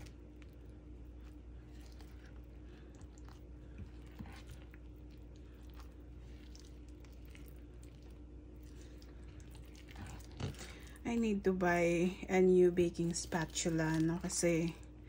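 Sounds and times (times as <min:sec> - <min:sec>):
steady low hum: 0:00.0 - 0:15.0
wet flour squishing: 0:00.0 - 0:15.0.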